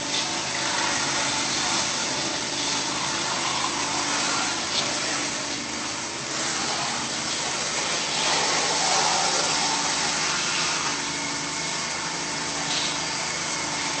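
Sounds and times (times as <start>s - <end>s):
motor humming: 0.0s - 14.0s
pressure washer water jet hissing: 0.0s - 14.0s.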